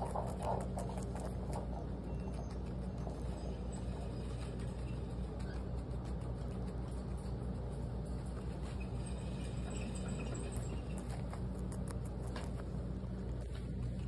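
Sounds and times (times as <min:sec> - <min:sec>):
guinea pig chewing: 0:00.0 - 0:14.0
steady low hum: 0:00.0 - 0:14.0.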